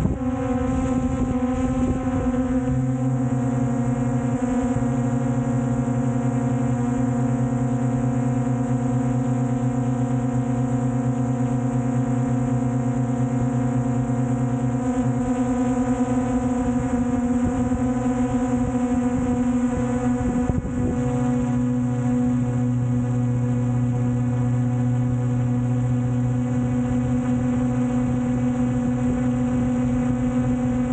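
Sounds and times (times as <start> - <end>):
drone propellers humming: 0.0 - 30.9.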